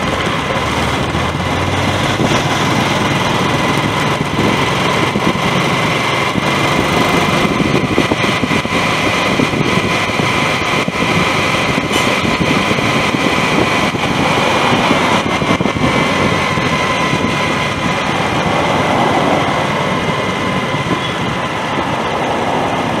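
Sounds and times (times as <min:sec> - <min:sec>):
motorcycle engine running: 0:00.0 - 0:22.2
road and wind noise: 0:00.0 - 0:23.0.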